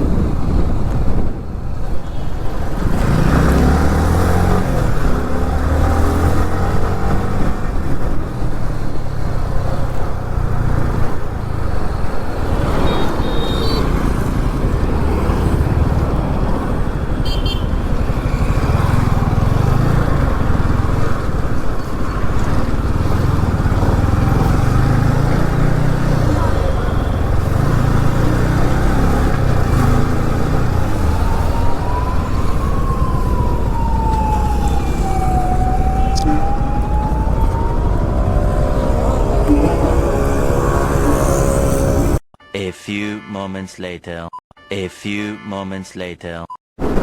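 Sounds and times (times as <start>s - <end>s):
traffic noise: 0.0s - 42.2s, 46.8s - 47.0s
wind: 0.0s - 42.2s, 46.8s - 47.0s
motorcycle engine revving: 2.7s - 42.2s.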